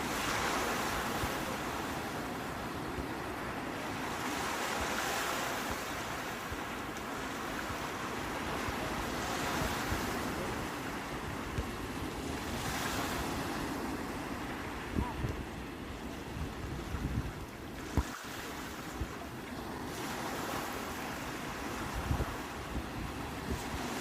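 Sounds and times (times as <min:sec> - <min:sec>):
sea waves breaking: 0:00.0 - 0:24.0.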